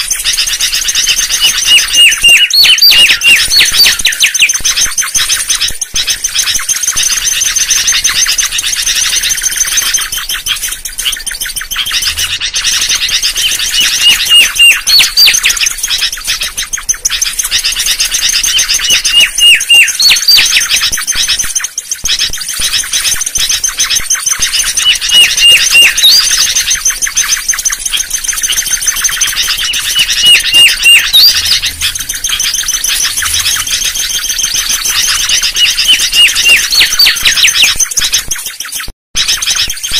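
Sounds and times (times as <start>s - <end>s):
bird whistled song: 0.0s - 39.9s
chatter of bird calls: 0.0s - 39.9s.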